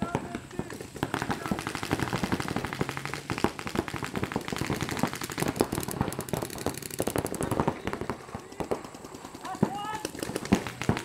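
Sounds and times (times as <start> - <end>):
paintball markers firing pops: 0.0 - 11.0.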